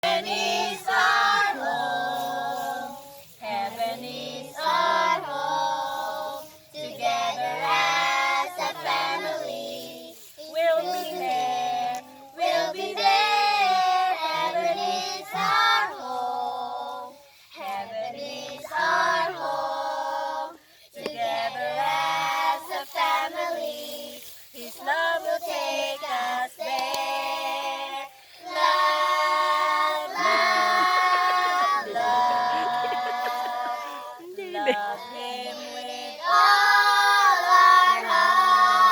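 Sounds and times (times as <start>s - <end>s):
young voices singing: 0.0s - 38.9s.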